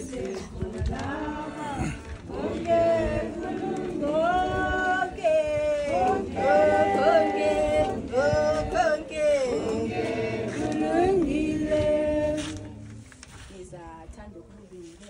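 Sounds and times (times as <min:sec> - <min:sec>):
group singing unaccompanied: 0:00.0 - 0:13.1.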